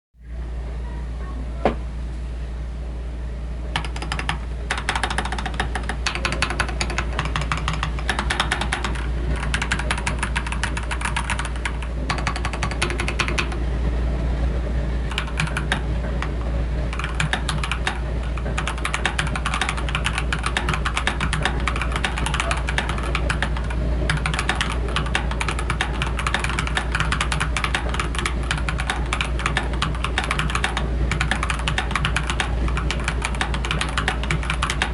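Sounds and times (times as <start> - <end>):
steady low hum: 0.2 - 34.9
mechanical keyboard typing: 3.7 - 13.6, 15.1 - 34.9.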